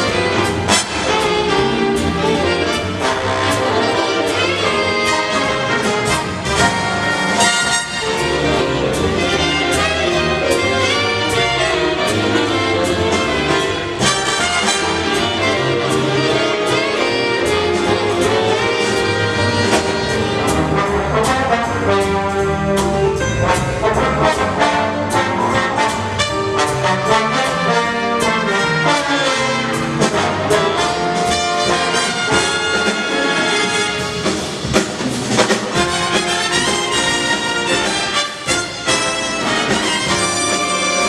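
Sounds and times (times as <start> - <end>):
big band jazz: 0.0 - 41.0.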